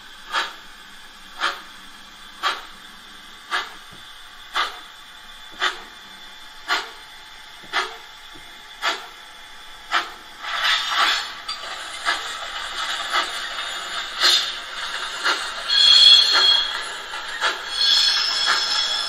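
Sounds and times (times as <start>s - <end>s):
steam hiss: 0.0s - 8.1s, 9.8s - 19.0s
steam locomotive exhaust chuffs: 0.0s - 19.0s.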